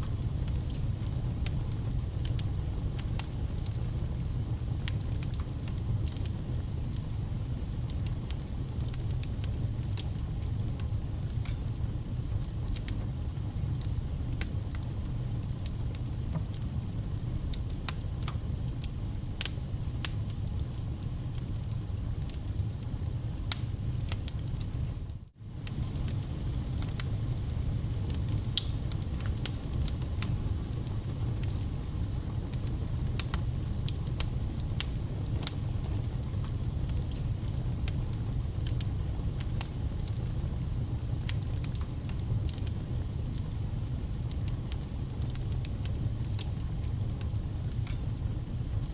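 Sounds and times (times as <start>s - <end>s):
fire low rumble: 0.0s - 48.9s
wood fire crackling and popping: 0.0s - 48.9s.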